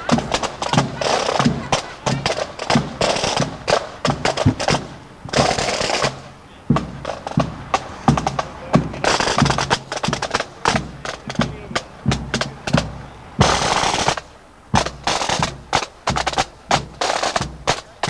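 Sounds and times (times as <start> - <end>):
bass drum beats: 0.0 - 18.0
snare drum strokes and rolls: 0.0 - 18.0.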